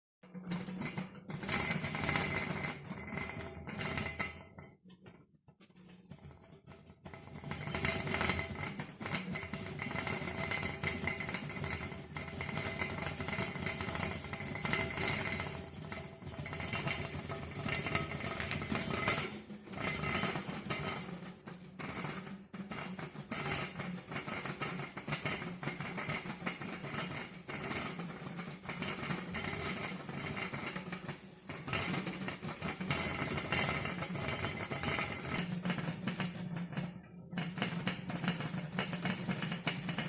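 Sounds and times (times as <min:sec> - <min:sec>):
rice cooker rattling and buzzing: 0:00.3 - 0:05.0, 0:06.1 - 0:40.0.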